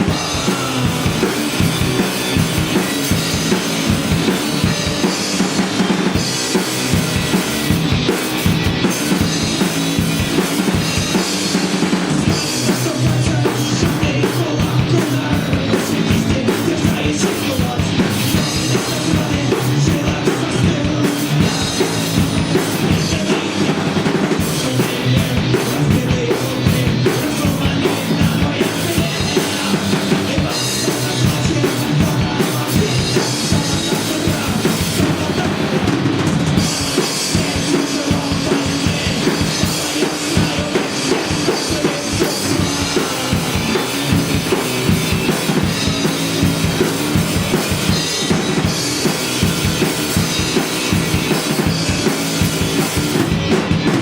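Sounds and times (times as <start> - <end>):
drum kit beat: 0.0 - 54.0
rock band playing live: 0.0 - 54.0.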